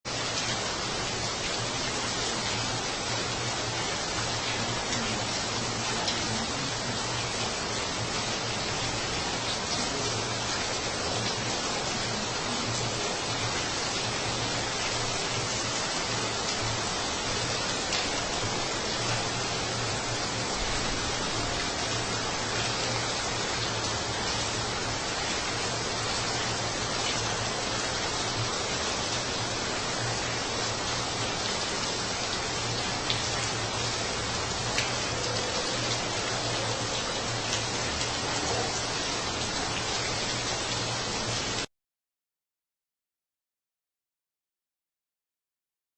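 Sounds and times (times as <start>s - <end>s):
heavy rain hissing: 0.1s - 41.7s.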